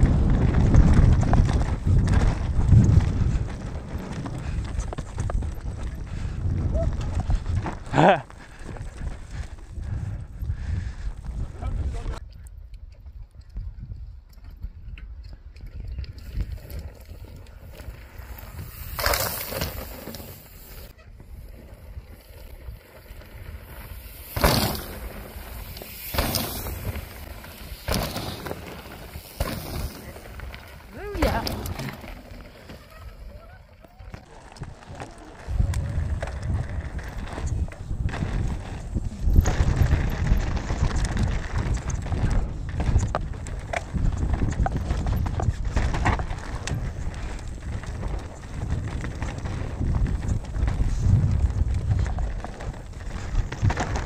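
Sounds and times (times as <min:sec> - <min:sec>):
bike knocking and rattling: 0:00.0 - 0:11.0, 0:13.8 - 0:54.0
bike tyres rumbling on dirt: 0:00.0 - 0:12.2, 0:15.8 - 0:54.0
wind on microphone: 0:00.0 - 0:32.2, 0:32.9 - 0:54.0.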